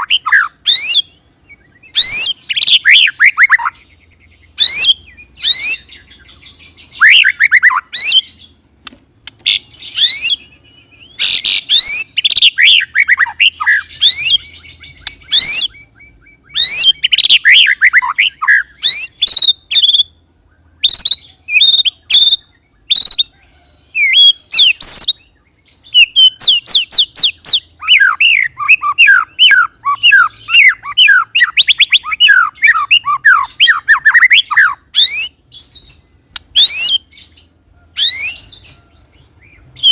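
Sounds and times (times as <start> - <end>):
bird singing rapid whistles: 0.0 - 8.5, 9.2 - 23.3, 23.9 - 39.9.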